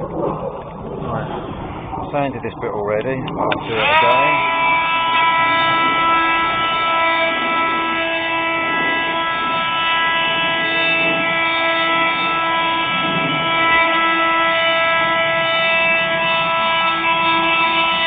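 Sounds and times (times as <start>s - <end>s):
oscillating tool sanding: 3.5s - 18.0s.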